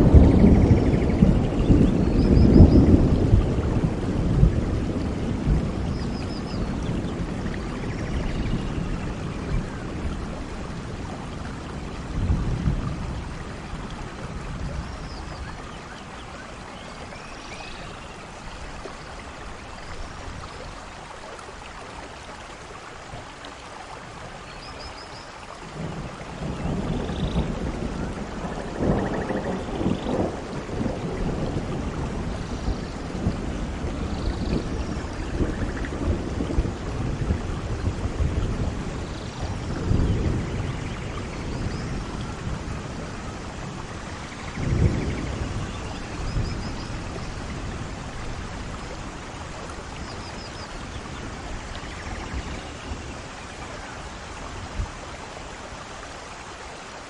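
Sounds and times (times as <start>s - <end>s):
low rumble of thunder: 0.0s - 21.1s, 24.1s - 56.2s
steady rain: 0.0s - 57.0s.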